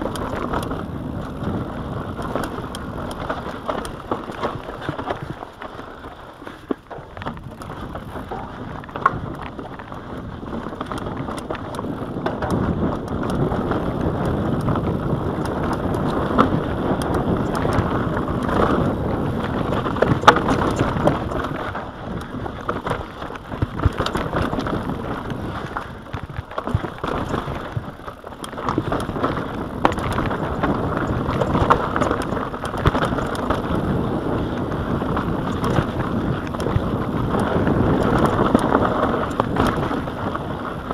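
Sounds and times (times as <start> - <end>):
bike knocking and rattling: 0.0 - 40.9
tyres crunching over dirt and stones: 0.0 - 40.9
wind rushing over microphone: 0.0 - 40.9.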